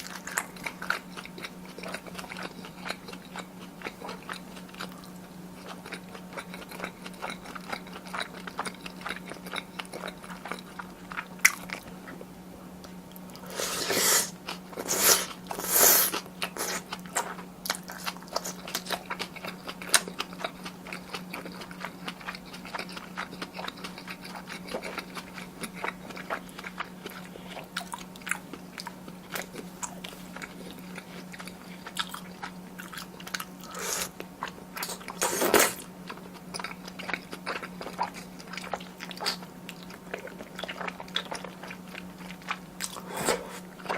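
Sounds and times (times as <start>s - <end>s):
chewing and biting food: 0.0s - 12.2s, 12.8s - 43.9s
steady low hum: 0.0s - 43.9s.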